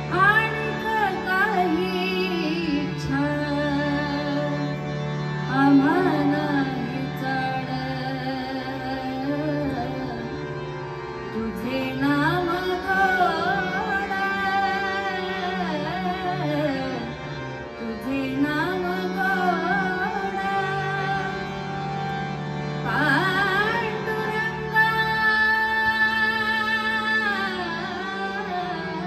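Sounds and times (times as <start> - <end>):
woman singing devotional song: 0.0 - 29.0.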